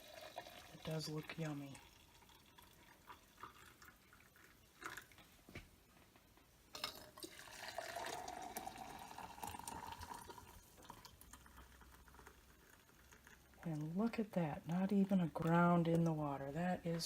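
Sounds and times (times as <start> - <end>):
coffee pouring into a cup: 0.0 - 5.3, 6.8 - 17.0.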